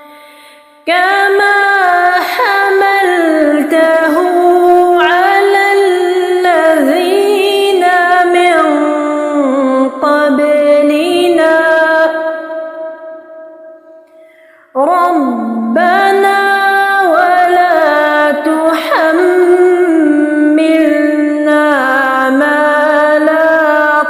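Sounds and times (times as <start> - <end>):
woman reciting melodically: 0.9 - 13.6, 14.7 - 24.0.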